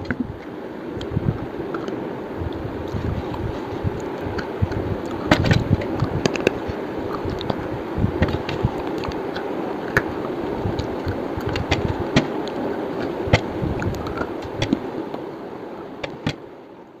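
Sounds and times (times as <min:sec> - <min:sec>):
slate being chewed: 0:00.0 - 0:14.8
steady background rumble: 0:00.0 - 0:17.0.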